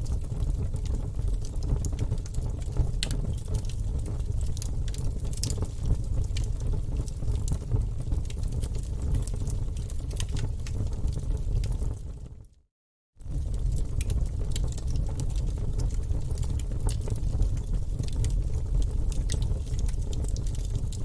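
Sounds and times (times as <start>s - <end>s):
fire flames rumbling: 0.0s - 12.4s, 13.2s - 21.0s
logs crackling and popping: 0.1s - 12.0s, 13.3s - 21.0s.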